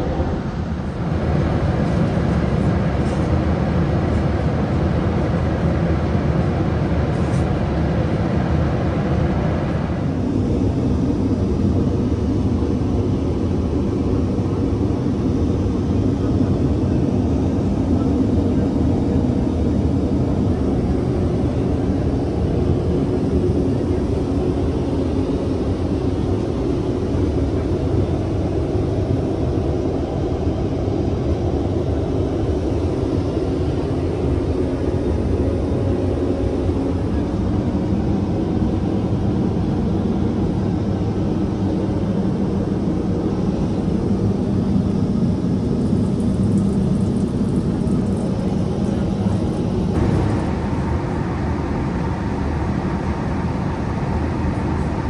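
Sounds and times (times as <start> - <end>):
airplane cabin drone: 0.0 - 55.0.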